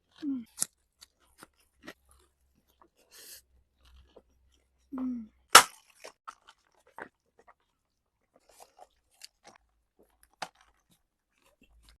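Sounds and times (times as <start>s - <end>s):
crunchy chewing of fried chicken: 0.0s - 12.0s.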